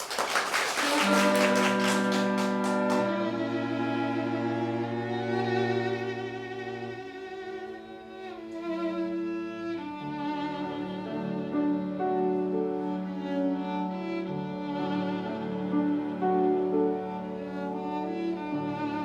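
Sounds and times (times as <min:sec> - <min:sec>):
cello playing: 0:00.9 - 0:19.0
violin playing: 0:00.9 - 0:19.0.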